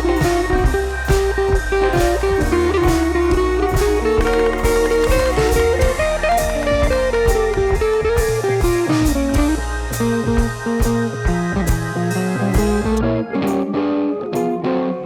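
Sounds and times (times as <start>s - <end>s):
guitar melody over bass and drums: 0.0s - 15.0s.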